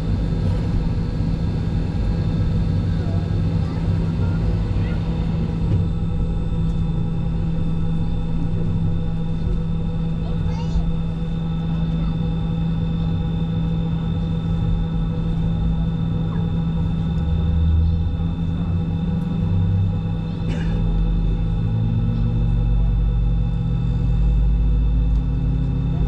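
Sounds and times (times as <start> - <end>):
jet engines whining: 0.0 - 26.0
low rumble: 0.0 - 26.0.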